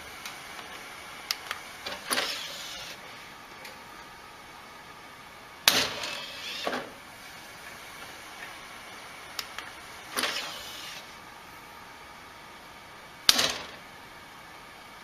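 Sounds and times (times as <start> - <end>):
optical drive tray whirring: 0.0 - 15.0.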